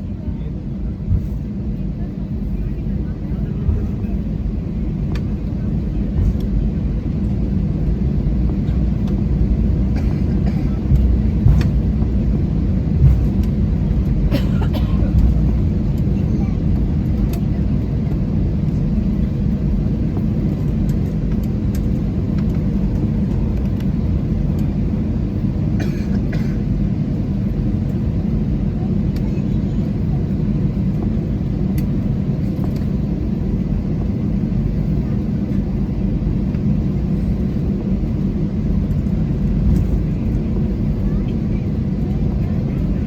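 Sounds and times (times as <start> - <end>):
aircraft cabin engine rumble: 0.0 - 43.0.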